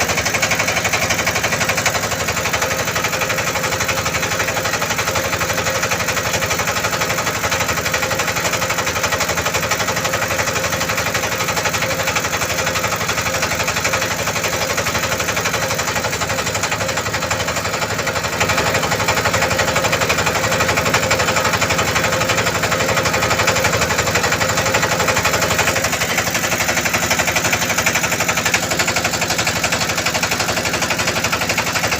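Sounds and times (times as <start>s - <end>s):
boat engine chugging: 0.0s - 31.9s.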